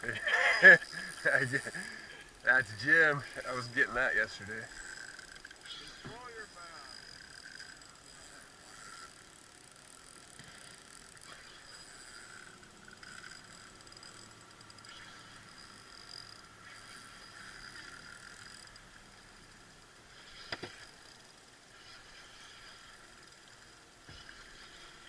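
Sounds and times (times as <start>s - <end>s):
fishing reel ticking and whirring: 0.0s - 25.0s.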